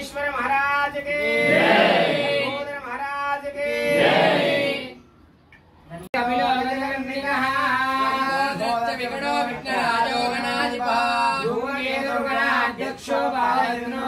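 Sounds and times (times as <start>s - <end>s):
voices singing a chant: 0.9s - 2.7s, 3.4s - 5.0s, 6.2s - 14.0s.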